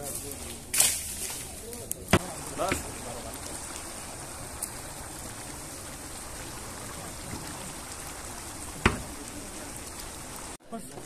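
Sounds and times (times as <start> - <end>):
pot of rice boiling: 0.0 - 11.0.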